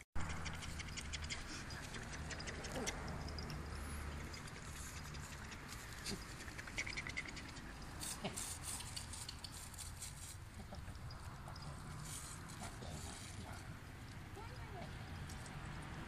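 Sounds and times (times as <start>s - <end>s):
puppy paws clicking on paving: 0.2s - 16.0s.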